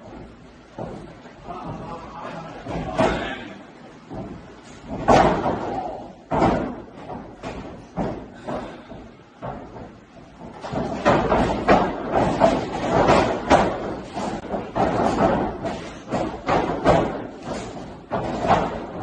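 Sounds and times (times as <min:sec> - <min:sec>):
heavy slams echoing in a hall: 0:00.0 - 0:19.0.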